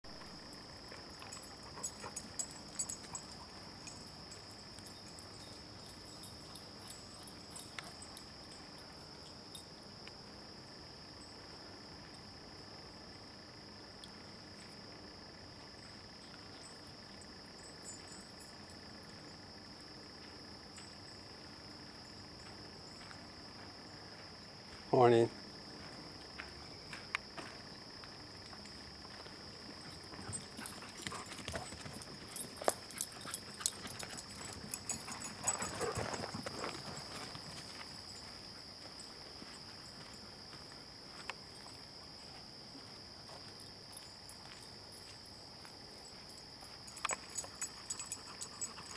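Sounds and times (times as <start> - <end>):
high-pitched insect chorus: 0.1 - 48.9.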